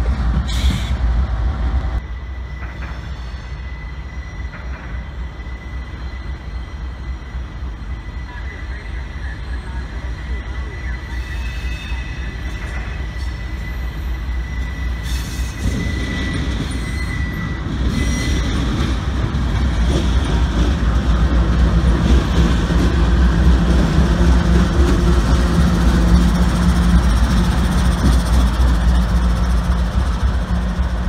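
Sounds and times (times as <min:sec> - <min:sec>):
diesel locomotive engine rumble: 0:00.0 - 0:31.0.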